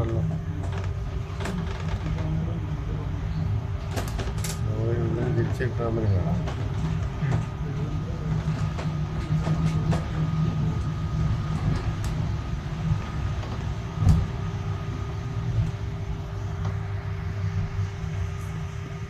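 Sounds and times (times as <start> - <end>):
faint steady whine: 0.0 - 19.0
tram rumbling on rails: 0.0 - 19.0.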